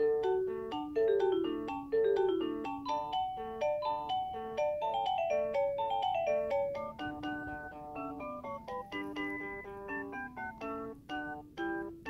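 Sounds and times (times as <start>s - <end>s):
electronic lullaby chime melody: 0.0s - 12.0s.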